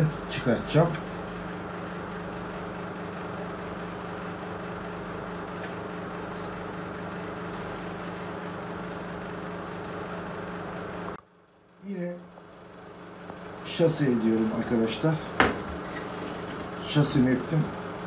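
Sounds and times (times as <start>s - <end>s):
machine hum with hiss: 0.0s - 18.0s.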